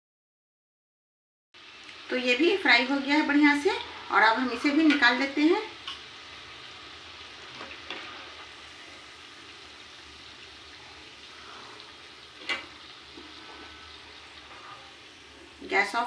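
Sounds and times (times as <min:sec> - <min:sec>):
fritters sizzling in hot oil: 0:01.6 - 0:16.0.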